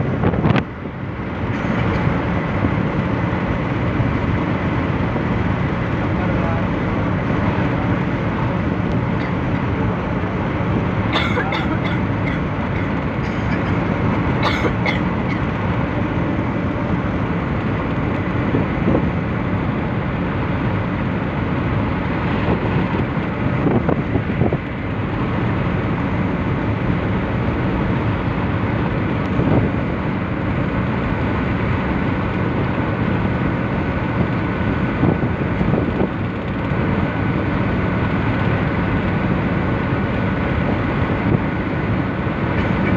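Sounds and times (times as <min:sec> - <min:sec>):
car road and engine noise: 0:00.0 - 0:42.9.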